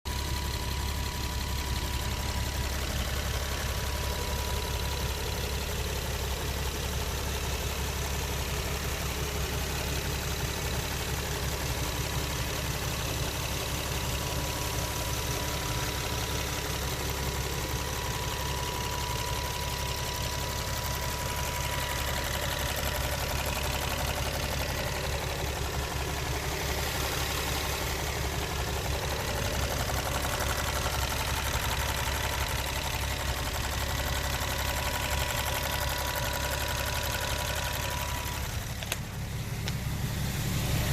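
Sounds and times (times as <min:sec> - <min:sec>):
car engine idling: 0:00.1 - 0:40.9
fast engine ticking: 0:00.1 - 0:40.9.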